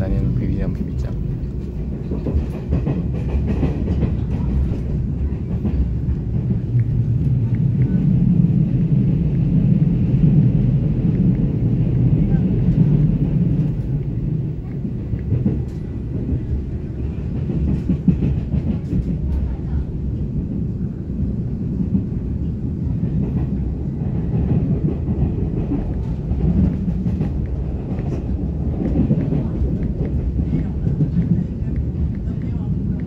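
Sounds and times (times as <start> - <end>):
train wheels rumbling on rails: 0.0 - 33.0
rail joint clicks: 0.2 - 21.0, 21.6 - 33.0.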